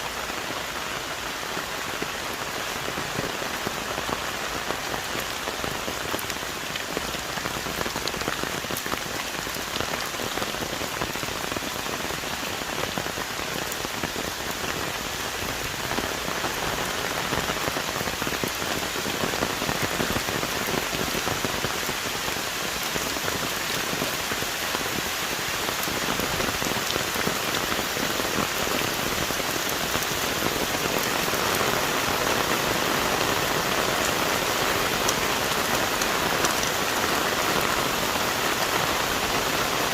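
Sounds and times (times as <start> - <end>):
heavy rain on trees and leaves: 0.0 - 39.9.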